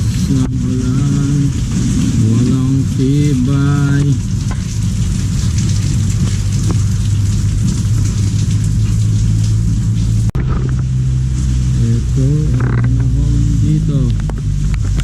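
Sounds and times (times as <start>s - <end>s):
continuous low hum: 0.0s - 15.0s
heavy rain falling: 0.0s - 15.0s.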